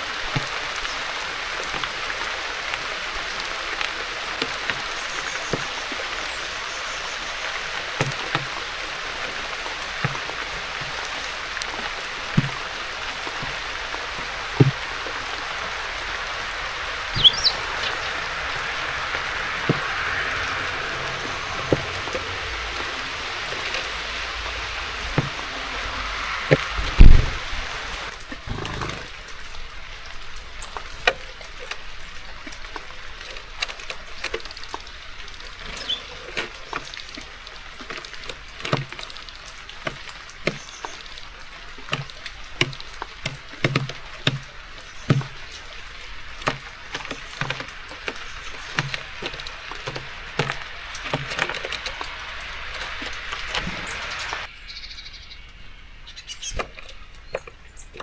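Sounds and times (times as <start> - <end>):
steady rain: 0.0 - 54.6.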